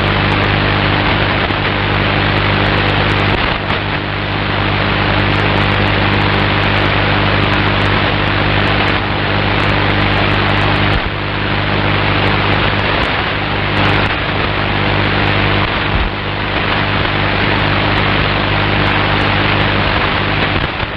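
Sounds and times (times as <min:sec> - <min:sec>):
low hum: 0:00.0 - 0:20.9
radio static hiss: 0:00.0 - 0:20.9.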